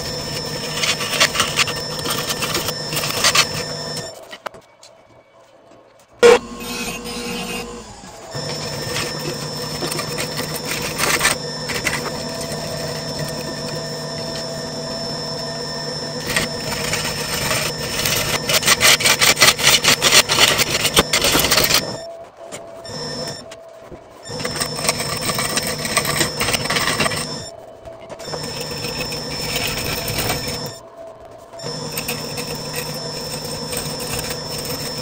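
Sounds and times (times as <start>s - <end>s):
gouge scraping spinning wood: 0.0s - 4.4s, 6.2s - 22.0s, 24.3s - 27.5s, 28.2s - 30.8s, 31.6s - 35.0s
wood lathe motor hum and whine: 0.0s - 4.5s, 6.2s - 35.0s.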